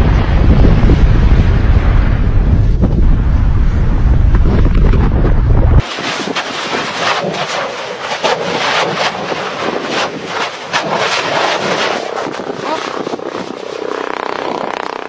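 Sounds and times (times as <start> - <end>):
volcanic eruption cracks and pops: 0.0 - 15.0.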